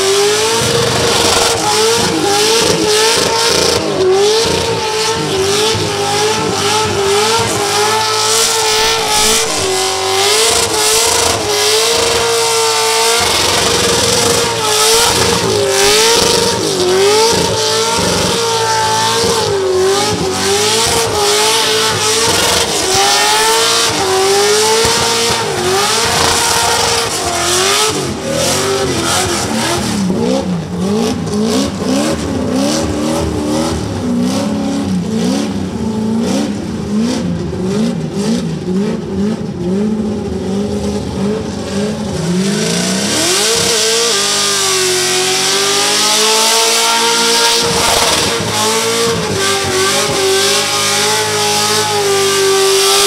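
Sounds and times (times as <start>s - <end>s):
car engine revving high: 0.0s - 53.0s.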